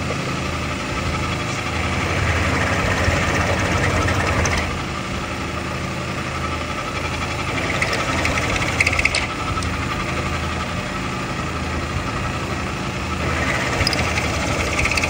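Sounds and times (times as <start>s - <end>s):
workshop machine running: 0.0s - 15.0s.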